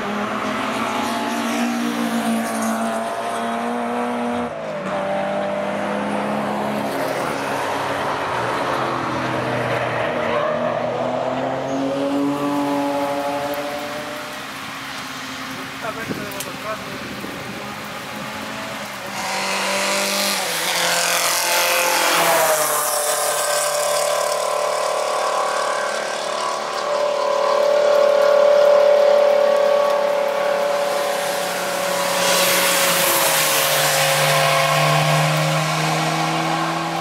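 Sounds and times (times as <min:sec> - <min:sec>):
car engine running hard: 0:00.0 - 0:37.0.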